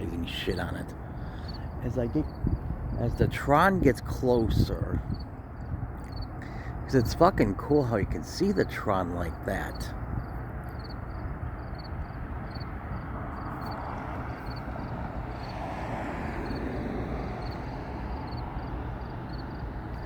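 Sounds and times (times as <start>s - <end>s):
insects chirping: 0.0s - 20.0s
light rail train rumbling: 0.0s - 20.0s.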